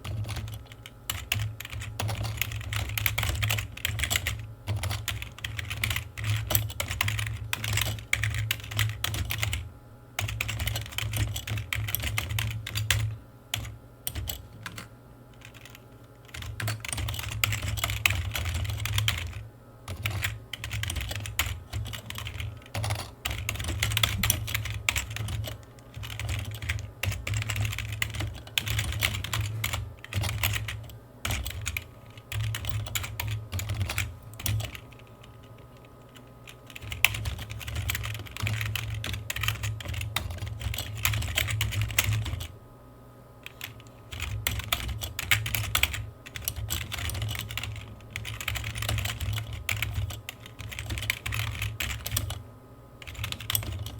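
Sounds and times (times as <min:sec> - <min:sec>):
keyboard typing: 0:00.0 - 0:09.6, 0:10.2 - 0:42.5, 0:43.4 - 0:52.4, 0:53.0 - 0:53.9.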